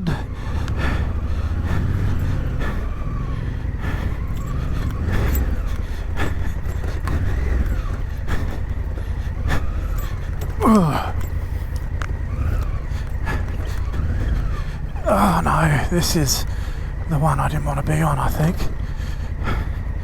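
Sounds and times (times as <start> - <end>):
knocks and rattles of bike: 0.0 - 20.0
motorcycle engine rumbling: 0.0 - 20.0.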